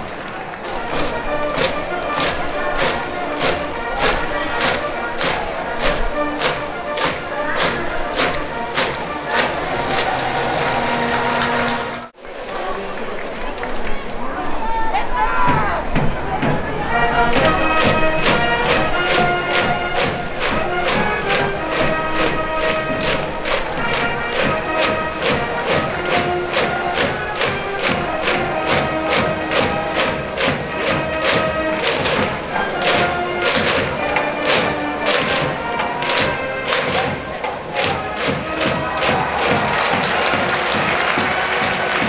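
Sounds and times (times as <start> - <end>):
brass melody: 0.0 - 12.2, 16.7 - 42.0
steady drum beat: 0.8 - 12.1, 15.5 - 42.0.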